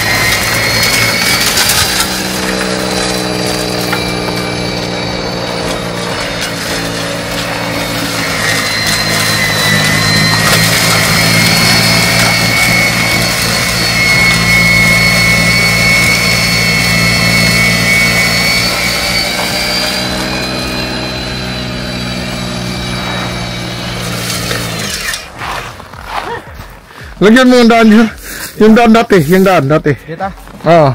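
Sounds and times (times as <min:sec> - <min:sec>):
snow blower engine droning: 0:00.0 - 0:30.9.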